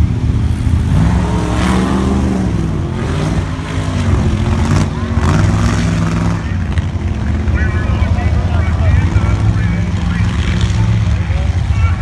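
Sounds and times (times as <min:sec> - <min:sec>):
drag car engines at full throttle: 0:00.0 - 0:12.0.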